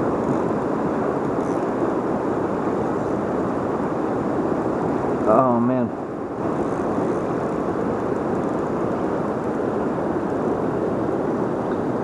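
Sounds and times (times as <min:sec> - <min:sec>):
floodwater roaring over dam: 0:00.0 - 0:12.0.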